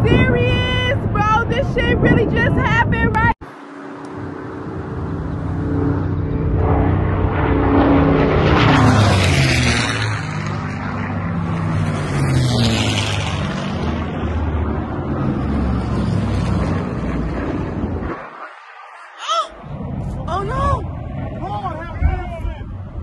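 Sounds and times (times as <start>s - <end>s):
propeller airplane passing overhead: 0.0s - 23.0s.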